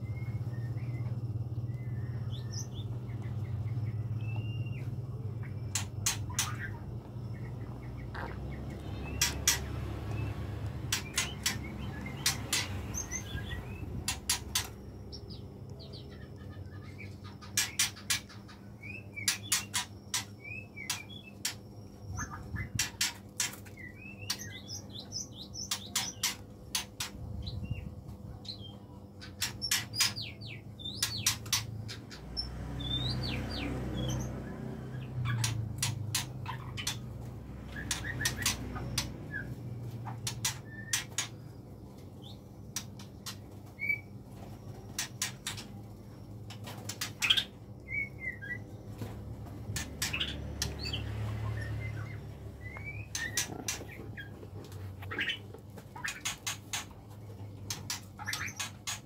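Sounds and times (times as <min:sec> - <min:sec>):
birds calling with clicks and chirps: 0:00.0 - 0:59.0.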